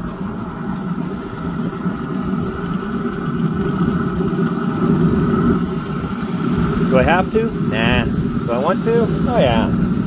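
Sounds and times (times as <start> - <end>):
grill fan humming with whine: 0.0 - 10.0.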